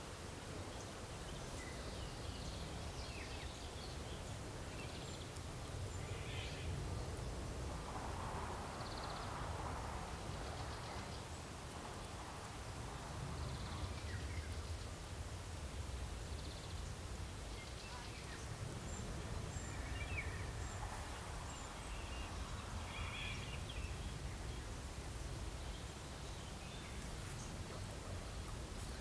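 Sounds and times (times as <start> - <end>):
small birds chirping: 0.0 - 7.8, 8.6 - 29.0.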